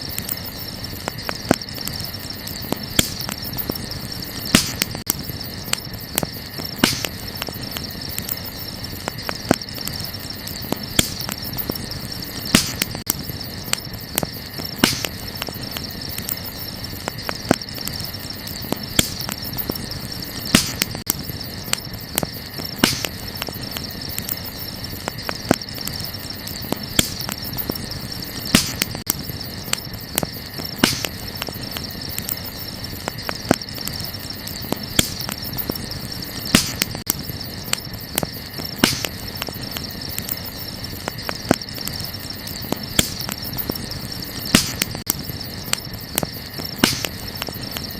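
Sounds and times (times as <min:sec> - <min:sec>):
night insects chirping: 0:00.0 - 0:47.9
wood fire crackling and popping: 0:00.0 - 0:47.9.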